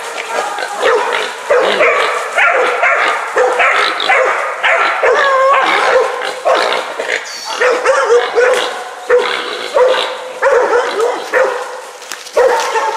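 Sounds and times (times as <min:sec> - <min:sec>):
dogs barking rapidly: 0:00.8 - 0:12.9.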